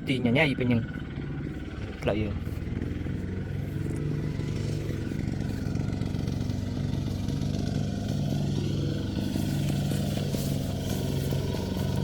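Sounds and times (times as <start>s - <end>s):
tractor engine chugging: 0.0s - 12.0s.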